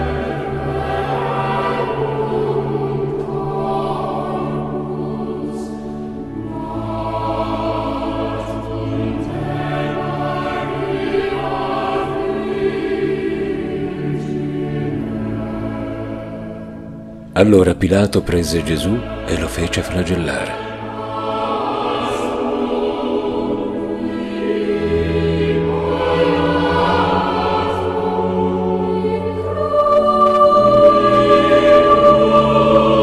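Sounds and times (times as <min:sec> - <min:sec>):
choir singing slow chords: 0:00.0 - 0:33.0.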